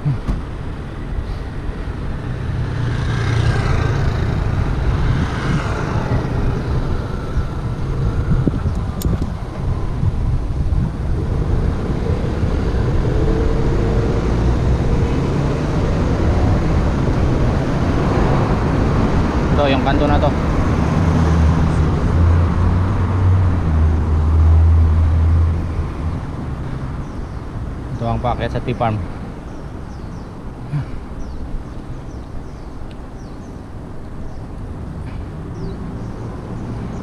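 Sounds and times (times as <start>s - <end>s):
wind rumble on microphone: 0.0s - 30.6s
cars and scooters passing: 0.0s - 37.0s.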